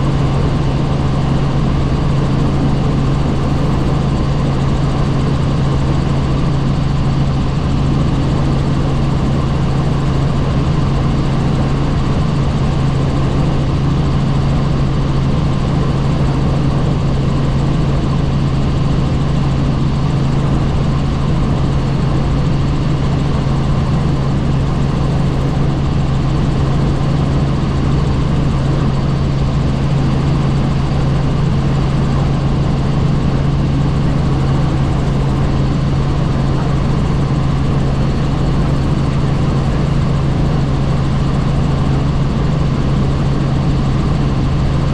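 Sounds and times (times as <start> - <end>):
helicopter drone from on board: 0.0 - 44.9.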